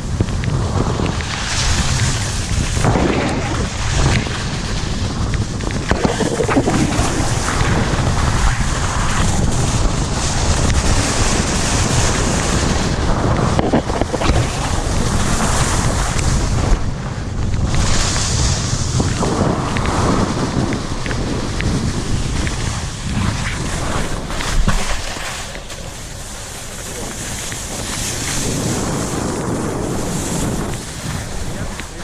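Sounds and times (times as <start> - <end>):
wind rushing over microphone: 0.0 - 32.0
skis hissing over snow: 0.6 - 16.7, 17.8 - 32.0.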